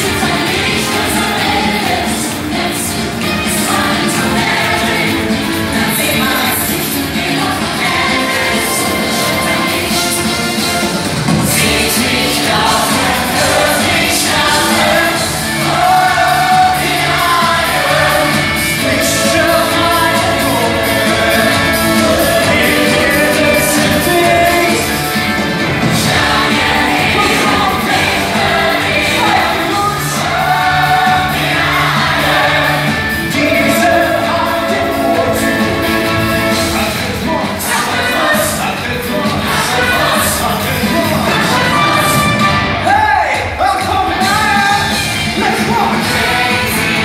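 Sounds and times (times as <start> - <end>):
band playing with steady beat: 0.0 - 47.0
people singing: 0.0 - 47.0.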